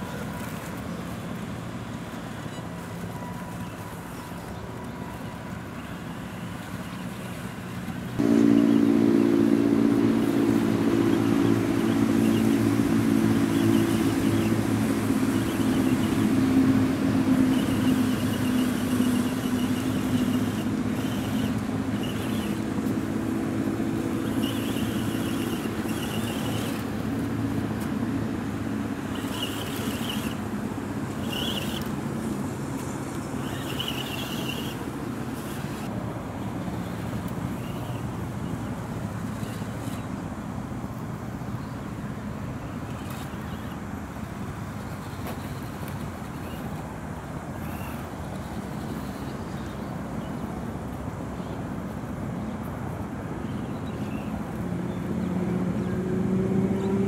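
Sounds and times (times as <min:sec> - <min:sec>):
engine-like drone: 0:00.0 - 0:57.0.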